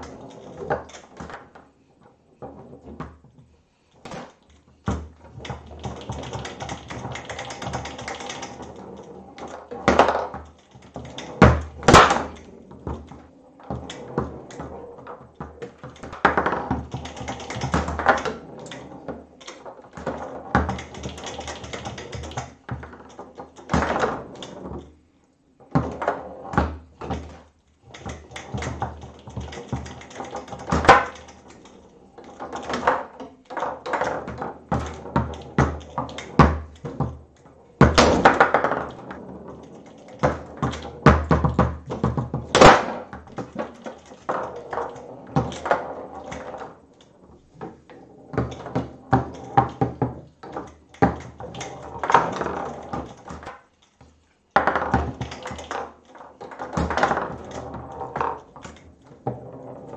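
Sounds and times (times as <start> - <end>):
foosball rods knocking and sliding: 0.0 - 59.9
foosball ball clacking: 4.0 - 25.0, 25.6 - 59.9.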